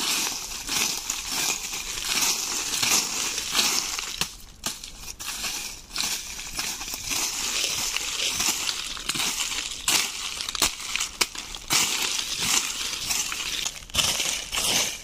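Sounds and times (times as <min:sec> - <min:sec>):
dry leaves scraped over soil: 0:00.0 - 0:15.0.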